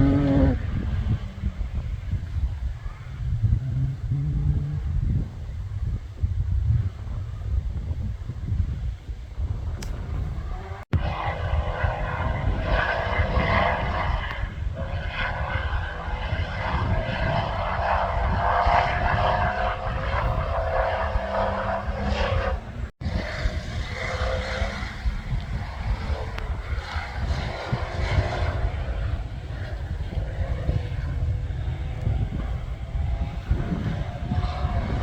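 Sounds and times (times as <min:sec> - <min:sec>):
off-road vehicle engine roaring: 0:00.0 - 0:35.0
wind buffeting: 0:00.0 - 0:35.0.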